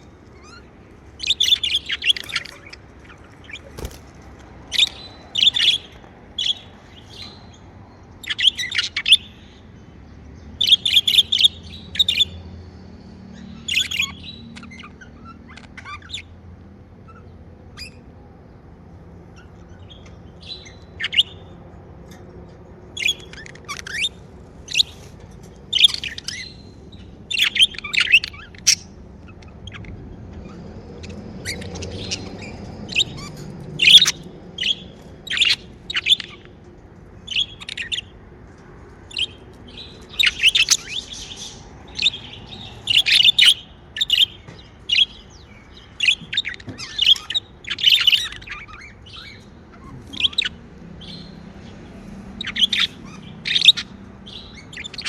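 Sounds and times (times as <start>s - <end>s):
budgerigars chirping: 0.0s - 18.2s, 19.2s - 22.2s, 22.8s - 36.6s, 37.2s - 38.2s, 39.1s - 55.0s.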